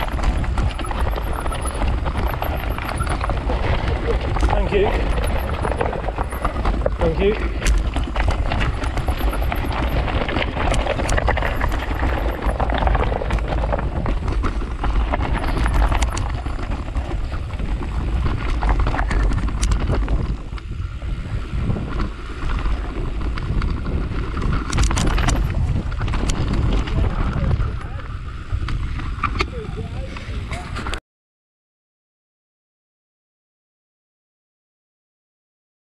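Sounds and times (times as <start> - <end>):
bike rattling over rocks: 0.0 - 29.4
wind on microphone: 0.0 - 31.0.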